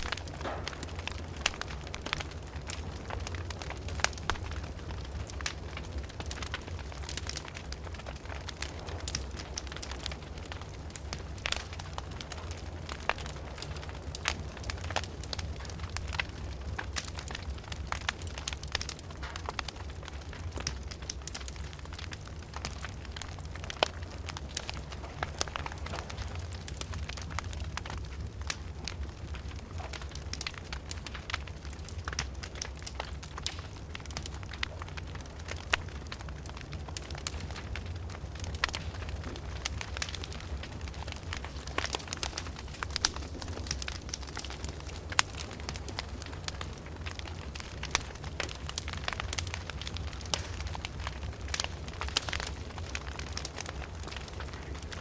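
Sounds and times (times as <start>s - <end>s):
fire crackling and popping: 0.0s - 55.0s
fire low rumble: 0.0s - 55.0s.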